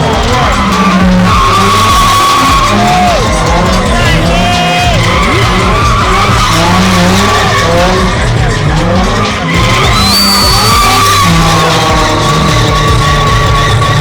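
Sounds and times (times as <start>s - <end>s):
car engine revving: 0.0s - 14.0s
tyres squealing: 0.0s - 14.0s.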